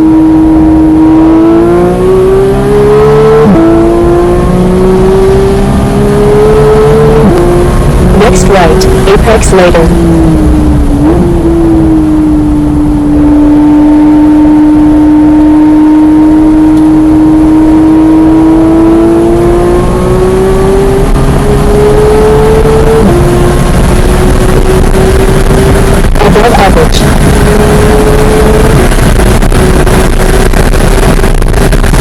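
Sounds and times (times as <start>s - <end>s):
road and wind noise: 0.0s - 32.0s
sports car engine running hard: 0.0s - 32.0s.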